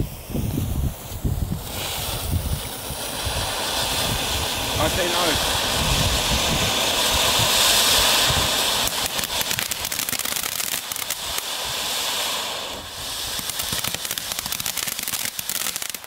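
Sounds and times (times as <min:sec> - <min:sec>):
firework fountain hissing and crackling: 0:00.0 - 0:16.0.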